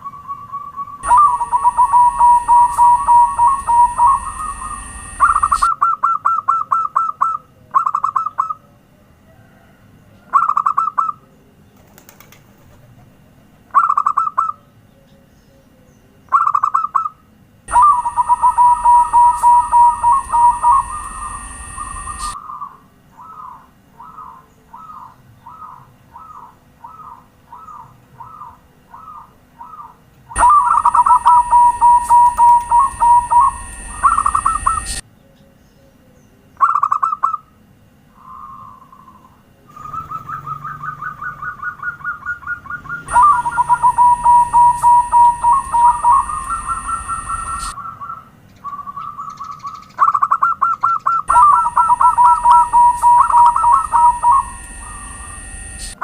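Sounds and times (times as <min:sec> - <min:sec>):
dove cooing: 0:00.0 - 0:11.3, 0:16.3 - 0:35.0, 0:38.2 - 0:56.0.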